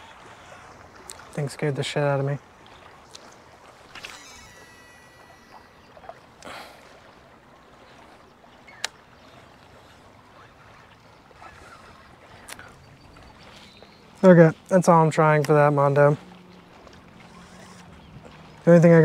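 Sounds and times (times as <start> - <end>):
fishing reel spool whirring: 0.0 - 1.2, 2.6 - 14.3, 16.2 - 19.0
faint water and outdoor background: 0.0 - 19.0.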